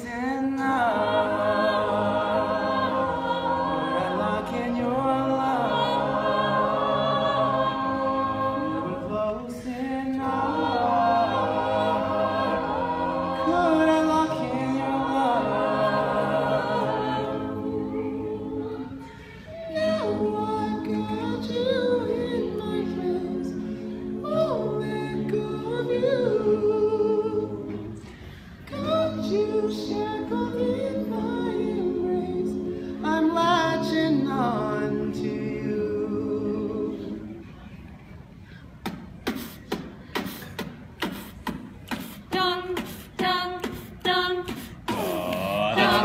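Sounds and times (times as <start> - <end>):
a cappella group singing: 0.0 - 37.6, 38.8 - 46.0.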